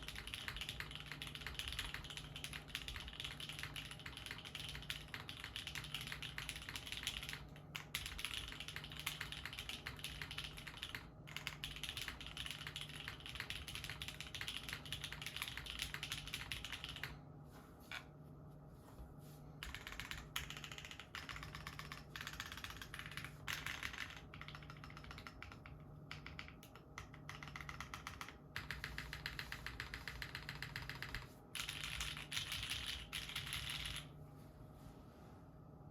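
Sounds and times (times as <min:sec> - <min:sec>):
typing on mechanical keyboard: 0:00.0 - 0:17.2, 0:19.6 - 0:34.1.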